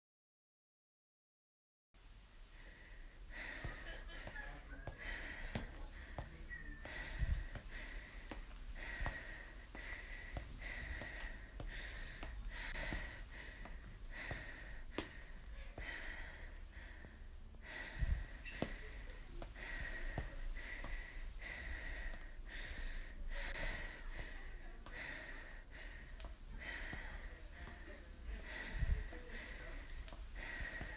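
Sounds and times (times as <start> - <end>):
person breathing noisily: 2.4 - 30.9.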